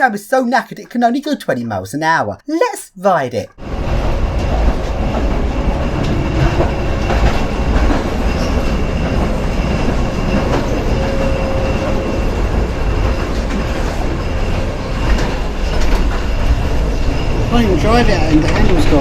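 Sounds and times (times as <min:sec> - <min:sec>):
tram rumbling on track: 0:03.6 - 0:19.0
tram wheels clacking: 0:03.7 - 0:19.0.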